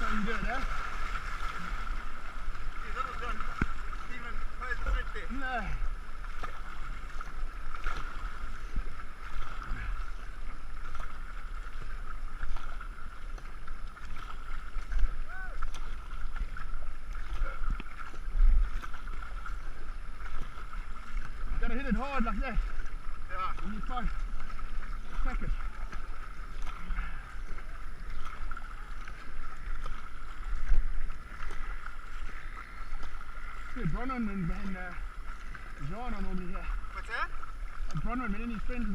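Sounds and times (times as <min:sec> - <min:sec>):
paddle strokes splashing: 0:00.0 - 0:38.9
water rushing past hull: 0:00.0 - 0:38.9.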